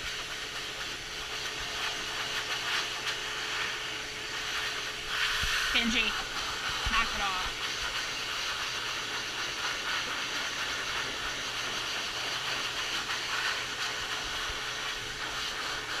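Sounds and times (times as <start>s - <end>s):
grooming dryer blowing air: 0.0s - 16.0s.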